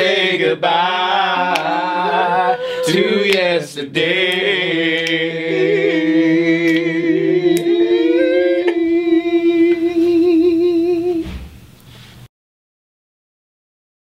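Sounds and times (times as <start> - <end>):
unaccompanied voices singing: 0.0 - 11.5.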